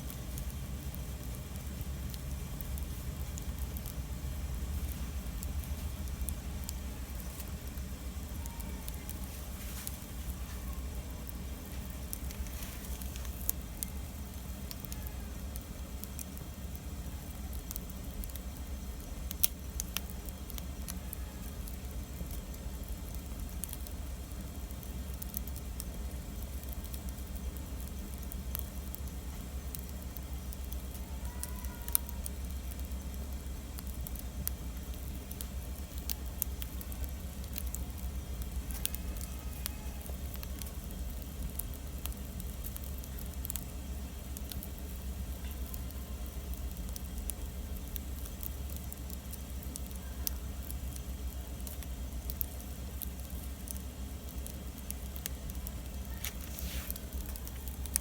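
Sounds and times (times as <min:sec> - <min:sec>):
campfire crackling: 0:00.0 - 0:58.0
fire popping: 0:00.0 - 0:58.0.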